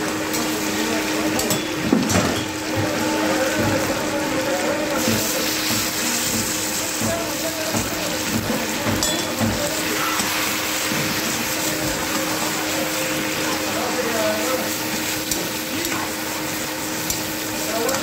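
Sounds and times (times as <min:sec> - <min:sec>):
chicken frying in hot oil: 0:00.0 - 0:18.0.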